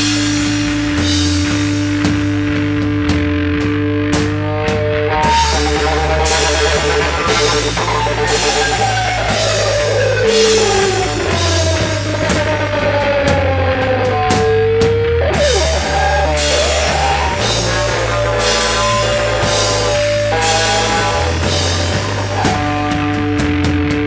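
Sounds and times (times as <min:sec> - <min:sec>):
bass: 0:00.0 - 0:24.0
drum kit with cymbal hits: 0:00.0 - 0:24.0
electric guitar lead sliding: 0:00.0 - 0:24.0.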